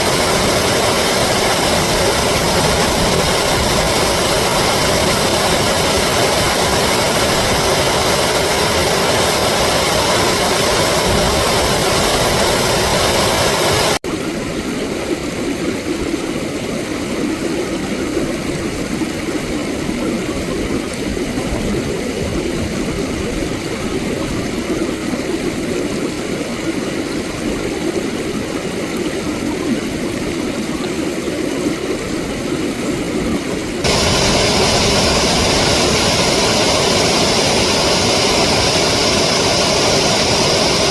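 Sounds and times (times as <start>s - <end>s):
reversed flowing water rushing: 0.0s - 40.9s.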